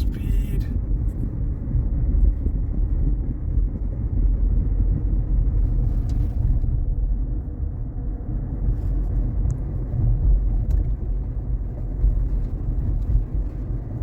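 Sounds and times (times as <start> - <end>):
road and tyre noise in car: 0.0 - 14.0.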